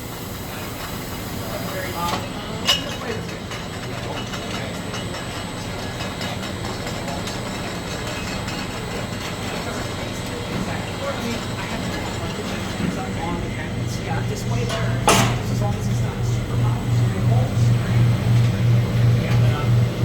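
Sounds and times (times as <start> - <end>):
machinery humming: 0.0 - 20.0
faint murmur of voices: 0.4 - 20.0.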